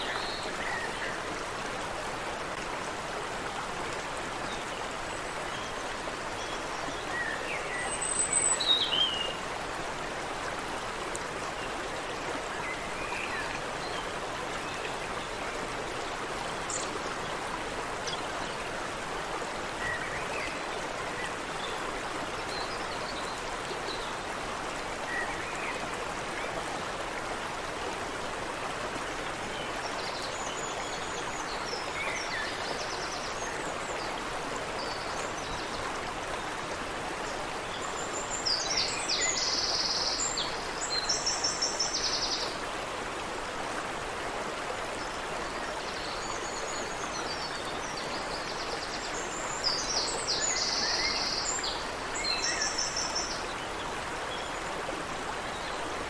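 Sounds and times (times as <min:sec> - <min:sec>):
water rushing in a stream: 0:00.0 - 0:56.0.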